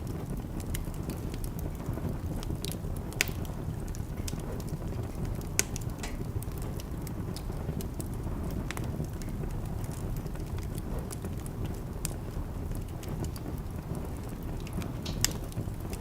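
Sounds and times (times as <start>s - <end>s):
fire pops: 0.0s - 16.0s
wood fire crackling: 0.0s - 16.0s.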